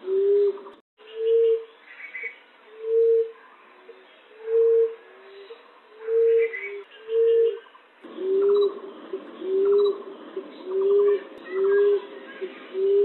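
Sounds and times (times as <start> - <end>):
dove cooing: 0.0 - 13.0
faint bird chirps: 0.4 - 13.0.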